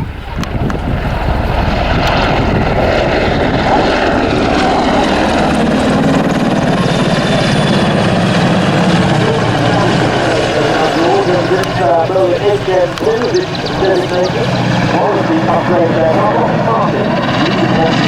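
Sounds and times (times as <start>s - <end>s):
helicopter rotor chop: 0.0s - 18.0s
turbine engine whine: 0.0s - 18.0s.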